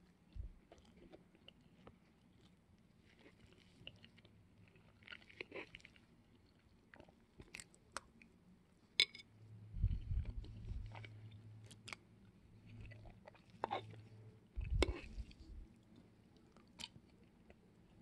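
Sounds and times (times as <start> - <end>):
person chewing cookie: 0.0 - 8.4, 9.8 - 18.0.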